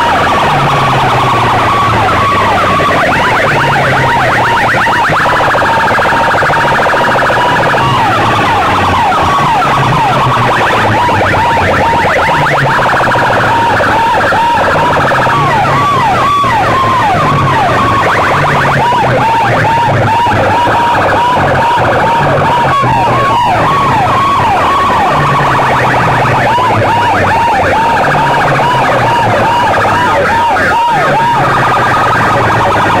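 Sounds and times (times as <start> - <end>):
fast warbling siren tone: 0.0 - 33.0
swooping siren sweeps: 0.0 - 33.0.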